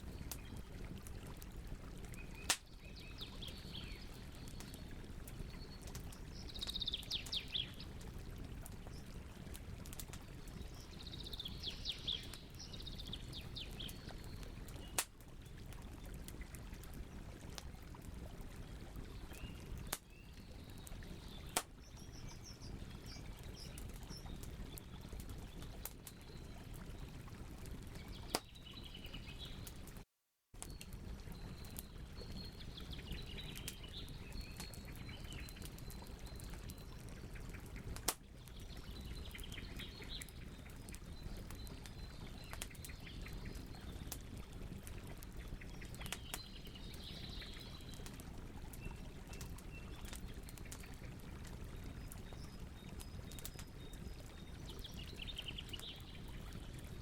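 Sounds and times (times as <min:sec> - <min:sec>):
campfire crackling and popping: 0:00.0 - 0:30.0, 0:30.6 - 0:57.0.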